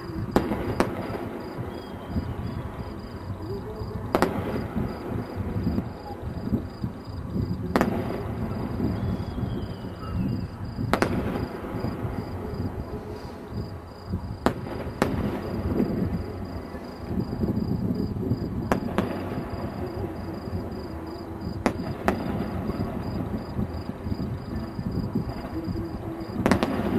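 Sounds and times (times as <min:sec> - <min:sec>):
fireworks bursting with sharp bangs: 0:00.0 - 0:26.9
steady low rumble: 0:00.0 - 0:26.9.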